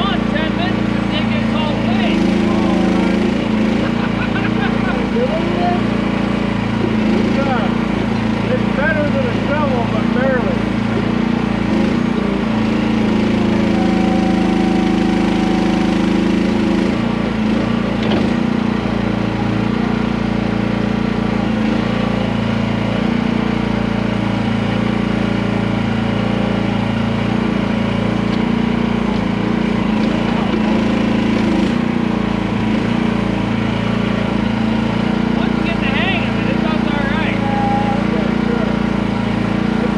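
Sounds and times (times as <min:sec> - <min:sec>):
hydraulic whine: 0:00.0 - 0:39.9
small gasoline engine running: 0:00.0 - 0:39.9.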